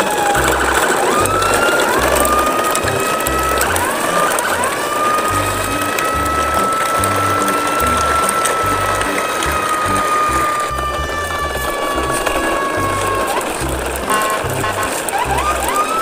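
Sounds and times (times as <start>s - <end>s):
toy trucks rattling on concrete: 0.0s - 16.0s.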